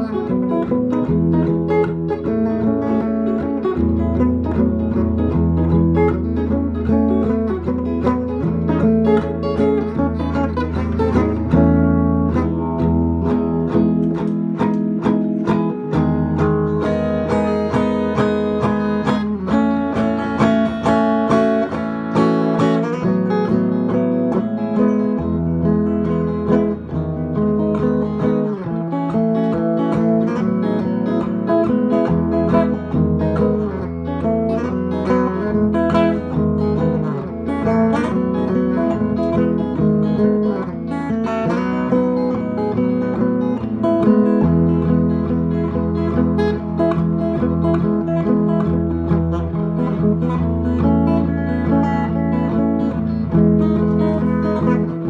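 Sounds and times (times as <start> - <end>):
electric guitar jam: 0.0 - 55.0.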